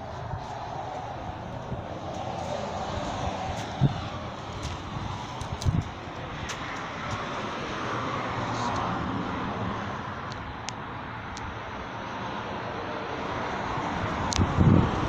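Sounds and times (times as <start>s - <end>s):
hiss of passing cars: 0.0s - 15.0s.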